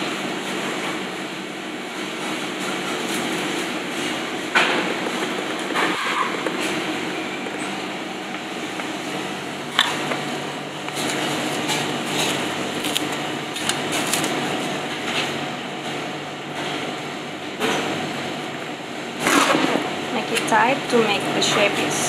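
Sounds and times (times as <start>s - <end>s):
ventilation hum: 0.0s - 22.0s.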